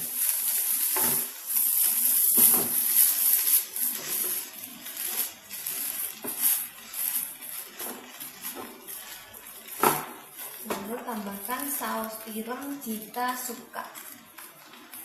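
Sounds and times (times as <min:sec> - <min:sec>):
noodles sizzling in wok: 0:00.0 - 0:15.0
spatula scraping wok: 0:00.0 - 0:15.0.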